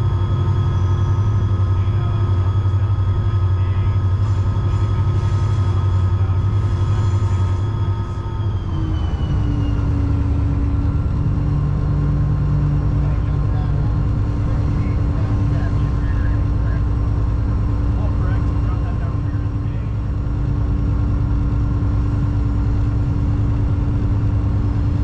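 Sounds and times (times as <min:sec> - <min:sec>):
diesel locomotive engine drone: 0:00.0 - 0:25.0
train rumble: 0:00.0 - 0:25.0.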